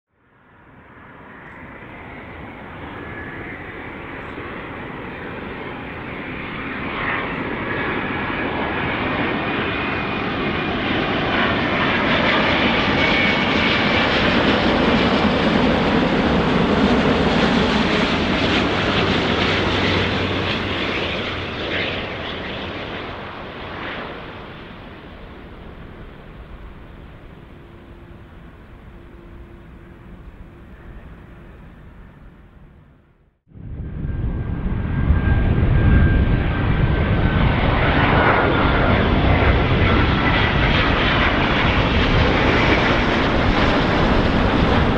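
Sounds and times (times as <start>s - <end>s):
jet engine noise: 0.2s - 44.9s
thin high engine whine: 0.2s - 44.9s.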